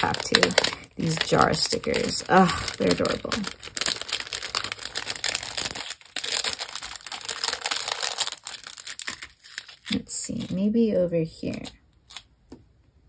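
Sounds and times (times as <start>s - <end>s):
plastic sticker sheet crinkling: 0.0s - 12.3s.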